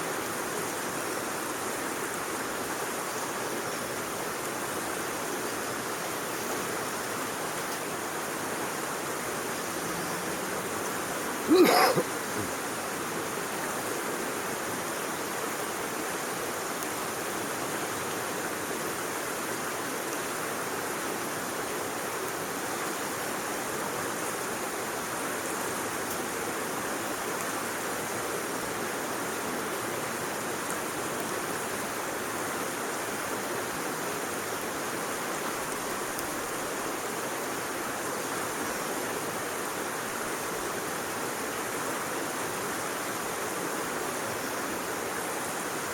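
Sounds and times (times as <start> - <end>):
flowing water rushing: 0.0 - 45.9.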